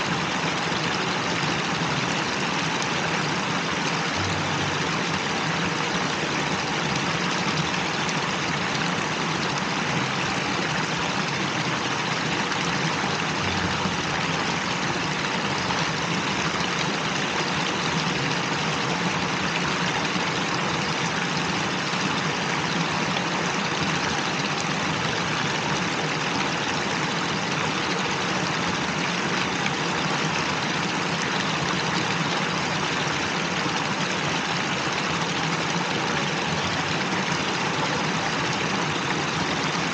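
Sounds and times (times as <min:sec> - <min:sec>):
faint steady hum: 0:00.0 - 0:39.9
fountain water splashing: 0:00.0 - 0:39.9.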